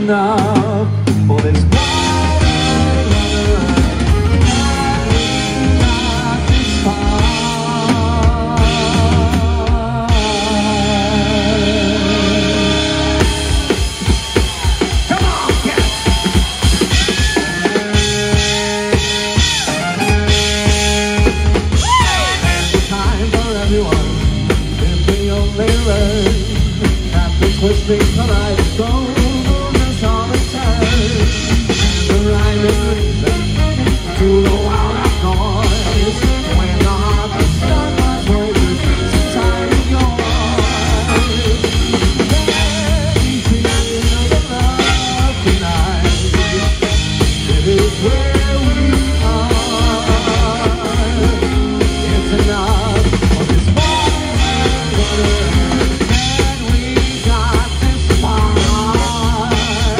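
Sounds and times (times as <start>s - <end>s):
drum kit hits: 0.0s - 59.9s
live band playing: 0.0s - 59.9s.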